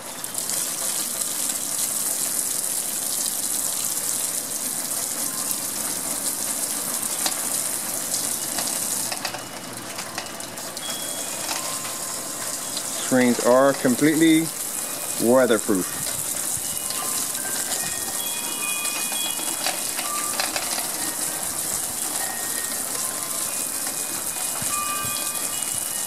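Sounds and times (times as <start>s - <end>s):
faint hiss of water: 0.0s - 9.3s, 10.6s - 26.0s
hose nozzle spraying water: 0.0s - 9.6s, 10.6s - 26.0s.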